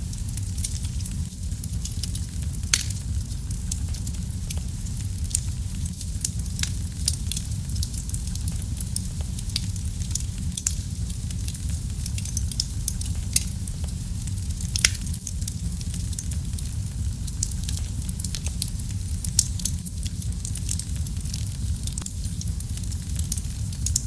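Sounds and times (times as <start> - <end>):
loud fire pops: 0.0 - 24.0
wood fire crackling: 0.0 - 24.0.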